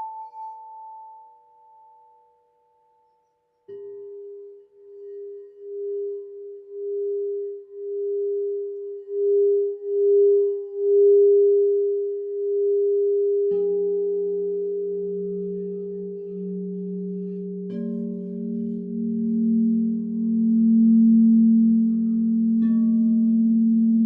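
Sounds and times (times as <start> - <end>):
lower bowl struck and ringing: 0.0 - 2.4, 3.6 - 24.0
singing bowl tone: 0.0 - 24.0.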